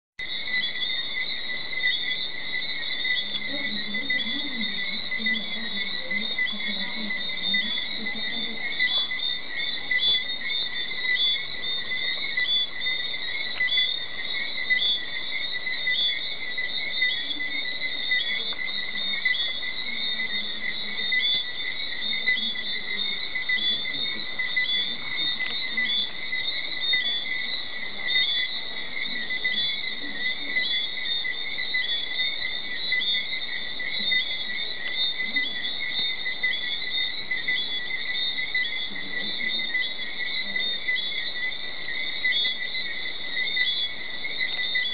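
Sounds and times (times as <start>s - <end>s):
crickets and insects chirring: 0.2s - 44.9s.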